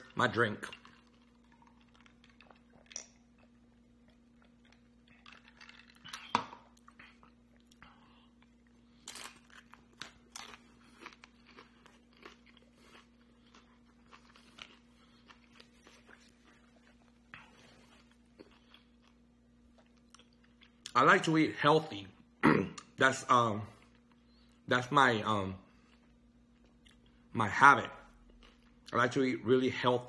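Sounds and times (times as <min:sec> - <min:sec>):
crunching and chewing food: 0:00.0 - 0:23.0, 0:25.7 - 0:29.9
faint steady hum: 0:00.0 - 0:30.0.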